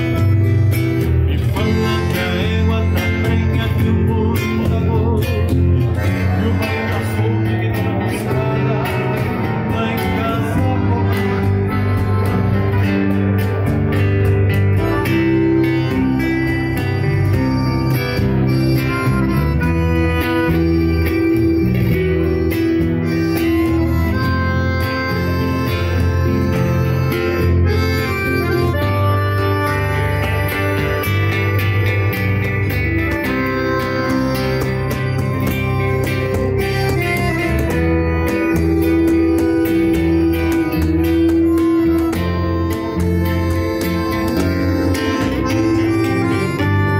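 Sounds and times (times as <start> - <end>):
acoustic guitar: 0.0 - 46.9
cajon beating: 0.0 - 46.9
electric bass line: 0.0 - 46.9
piano accordion: 0.0 - 46.9.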